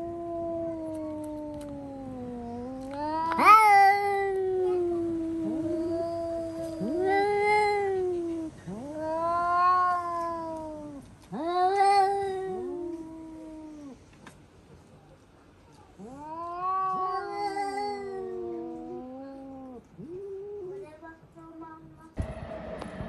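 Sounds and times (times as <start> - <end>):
cats yowling: 0.0 - 14.0, 16.0 - 20.8.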